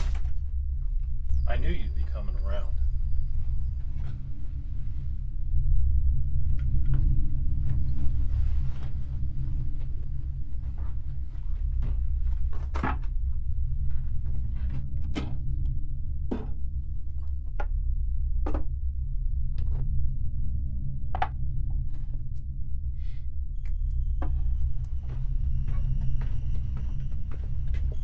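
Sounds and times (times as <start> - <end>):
steady low drone: 0.0 - 28.0.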